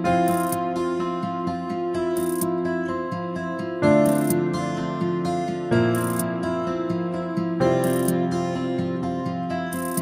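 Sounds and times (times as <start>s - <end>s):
soft new-age instrumental music: 0.0s - 10.0s.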